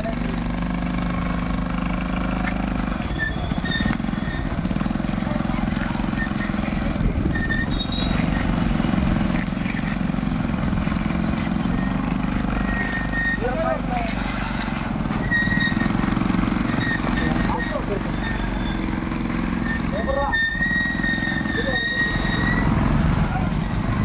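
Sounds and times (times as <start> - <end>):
small motorcycle engine running: 0.0 - 24.0
short high squeaks: 0.2 - 23.6.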